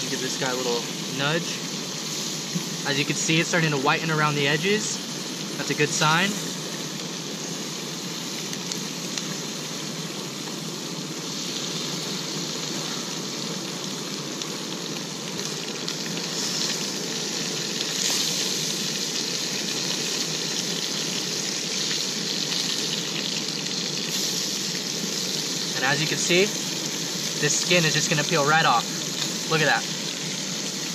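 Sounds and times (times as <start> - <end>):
fish sizzling in a frying pan: 0.0 - 30.9.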